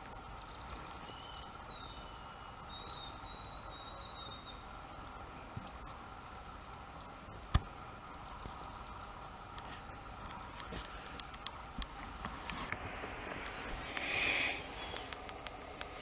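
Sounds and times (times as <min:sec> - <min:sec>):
small birds chirping: 0:00.0 - 0:16.0
steady background hiss: 0:00.0 - 0:16.0.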